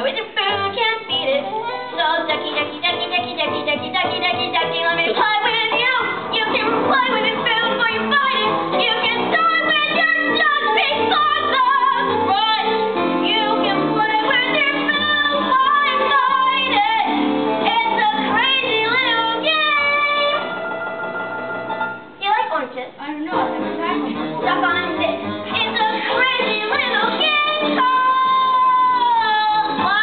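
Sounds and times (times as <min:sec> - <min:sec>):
lively musical accompaniment: 0:00.0 - 0:30.0.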